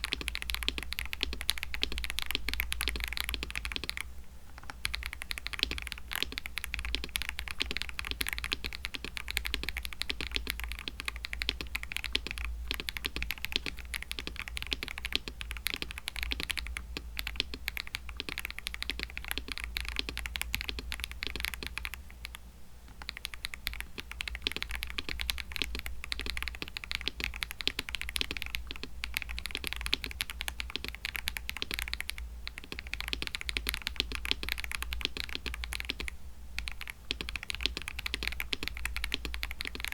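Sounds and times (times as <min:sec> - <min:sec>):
fast mechanical keyboard typing: 0:00.0 - 0:22.4, 0:23.0 - 0:39.9.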